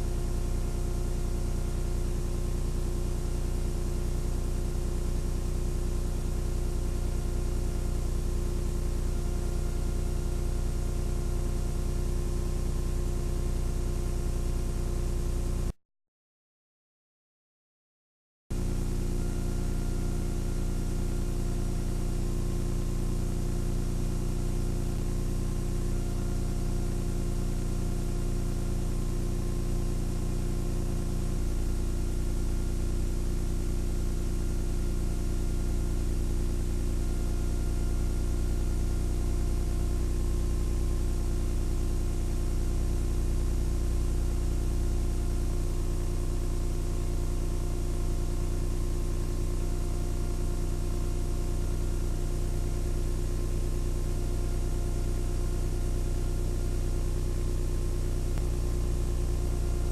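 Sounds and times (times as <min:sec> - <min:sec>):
machine hum with hiss: 0:00.0 - 0:15.8, 0:18.6 - 0:59.9.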